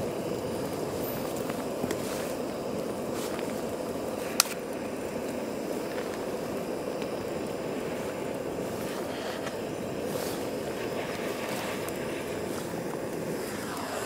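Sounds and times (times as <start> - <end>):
butane torch roaring: 0.0 - 14.0
torch click: 0.0 - 14.0.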